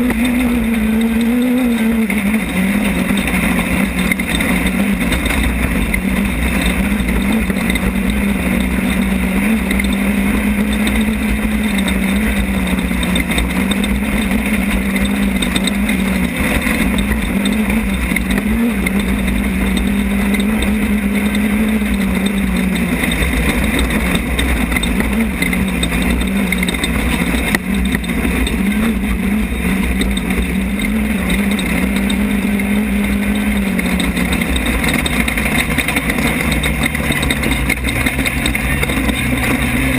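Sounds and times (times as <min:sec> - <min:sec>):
race car engine revving: 0:00.0 - 0:39.9
steady rushing noise: 0:00.0 - 0:39.9.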